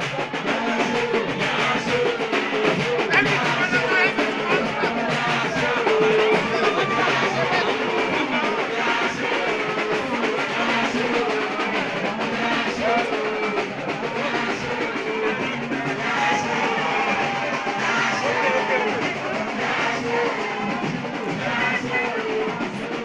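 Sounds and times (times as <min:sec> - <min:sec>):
song with singing voice: 0:00.0 - 0:23.0.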